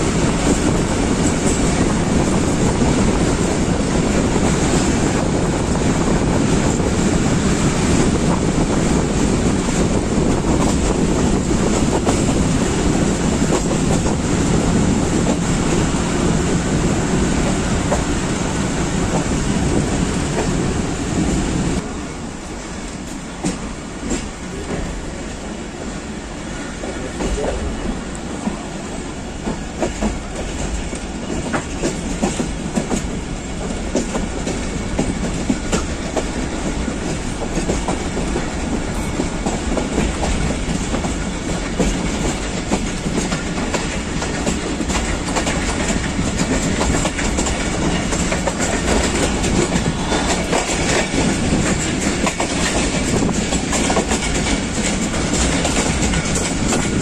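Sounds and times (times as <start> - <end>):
wheels clacking over rail joints: 0.0 - 21.8, 29.3 - 57.0
train coach rumble and rattle: 0.0 - 57.0.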